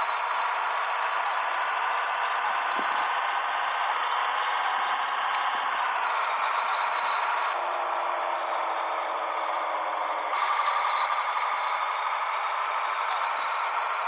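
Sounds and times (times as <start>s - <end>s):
truck road and cab noise: 0.0s - 14.0s.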